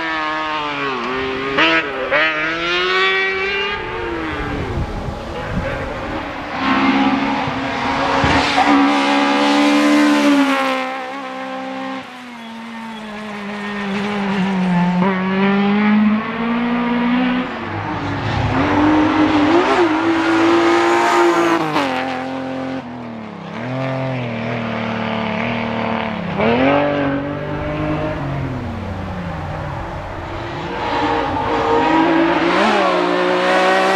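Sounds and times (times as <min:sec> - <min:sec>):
rally car engine revving: 0:00.0 - 0:33.9.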